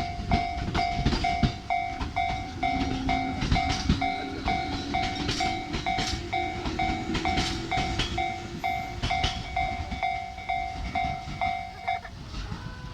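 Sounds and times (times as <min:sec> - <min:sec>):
level crossing bell ringing: 0:00.0 - 0:12.2
train wheels clattering: 0:00.0 - 0:12.9.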